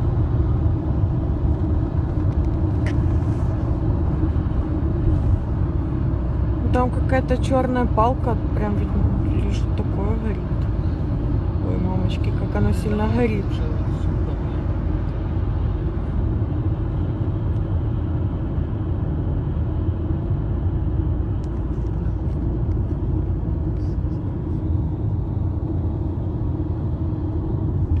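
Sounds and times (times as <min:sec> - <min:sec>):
low rumble: 0:00.0 - 0:28.0.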